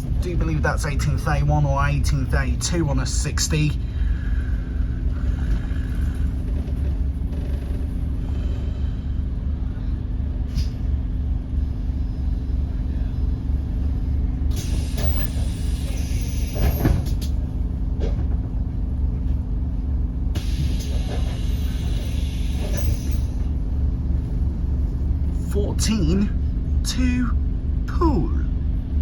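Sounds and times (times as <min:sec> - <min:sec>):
bus diesel engine running: 0:00.0 - 0:29.0.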